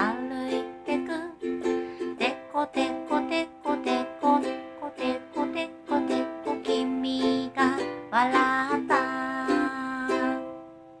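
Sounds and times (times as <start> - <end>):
person singing: 0.0 - 11.0
plucked strings: 0.0 - 11.0.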